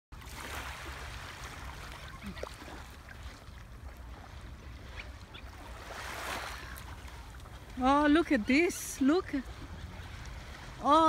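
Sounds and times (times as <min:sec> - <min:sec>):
sea water washing: 0:00.2 - 0:11.0.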